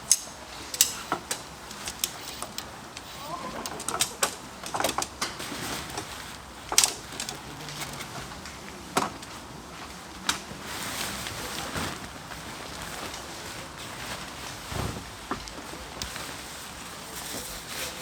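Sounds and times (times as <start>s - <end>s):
camping gear clicking and knocking: 0.0s - 16.8s
steady background hiss: 0.0s - 18.0s.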